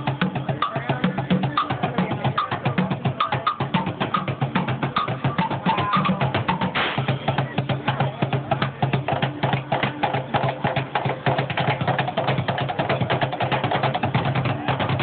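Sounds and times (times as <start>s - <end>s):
drumming on buckets: 0.0s - 15.0s.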